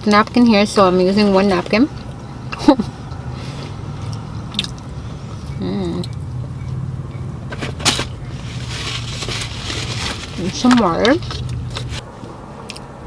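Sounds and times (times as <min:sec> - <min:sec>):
low car interior hum: 0:00.0 - 0:13.0.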